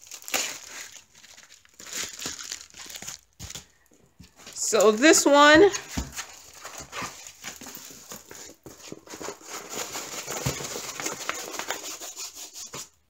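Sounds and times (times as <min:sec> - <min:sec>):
paper and plastic crinkling: 0:00.0 - 0:12.9.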